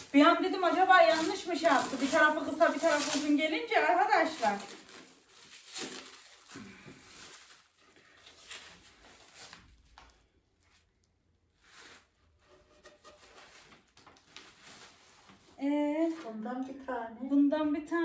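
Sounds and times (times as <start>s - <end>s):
faint rustles: 0.0s - 9.9s, 11.6s - 16.5s.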